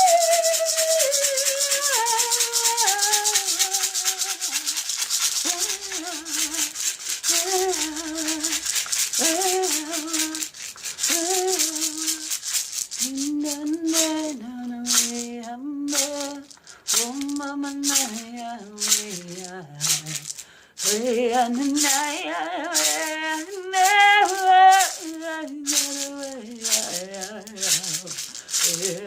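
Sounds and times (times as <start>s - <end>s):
hand rattle shaking: 0.0s - 29.0s
woman singing wordless phrases: 0.0s - 29.0s.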